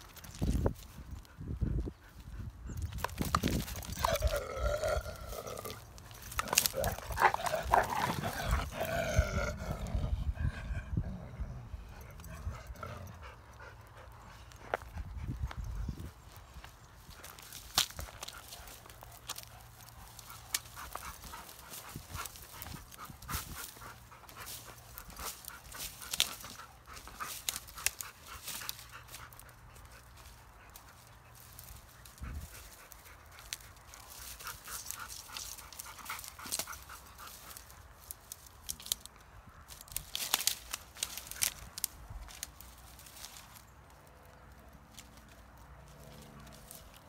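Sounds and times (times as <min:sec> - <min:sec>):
paws scuffing on stony ground: 0:00.0 - 0:10.8, 0:11.8 - 0:47.0
dogs panting: 0:00.6 - 0:38.4.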